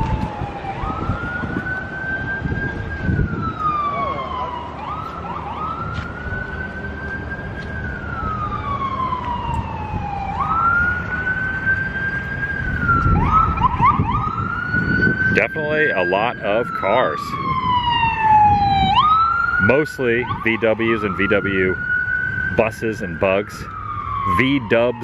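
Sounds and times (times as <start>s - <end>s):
emergency siren wailing: 0.0s - 25.0s.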